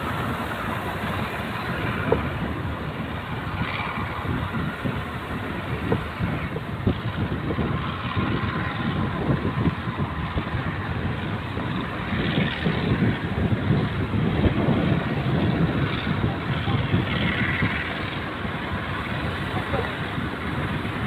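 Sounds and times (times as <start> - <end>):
boat motor running: 0.0 - 21.0
sea waves around a boat: 0.0 - 21.0
wind: 0.0 - 21.0.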